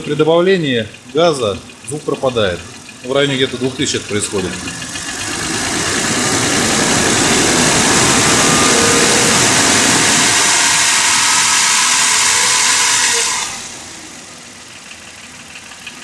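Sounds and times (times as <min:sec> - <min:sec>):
car engine at raised revs: 0:00.0 - 0:16.0.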